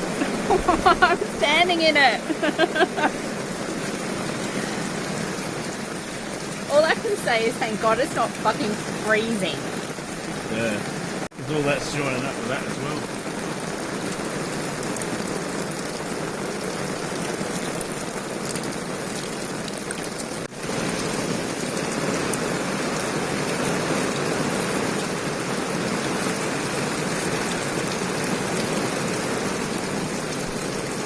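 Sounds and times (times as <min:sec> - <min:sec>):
heavy rain pouring: 0:00.0 - 0:31.0
runoff water running: 0:00.0 - 0:31.0.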